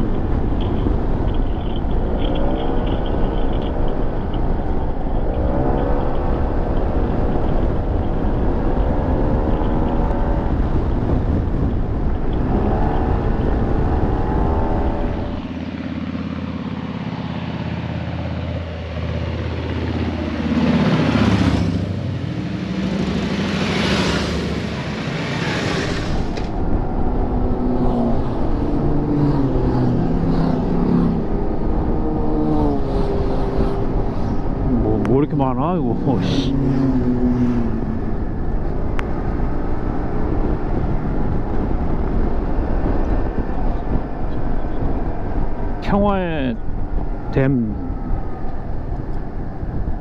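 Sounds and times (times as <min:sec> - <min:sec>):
wind buffeting microphone: 0:00.0 - 0:23.4, 0:25.9 - 0:50.0.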